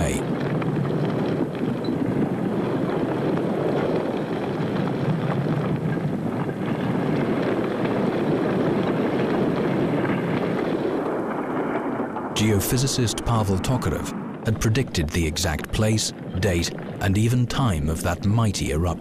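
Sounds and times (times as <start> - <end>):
volcano roaring and crackling: 0.0 - 19.0.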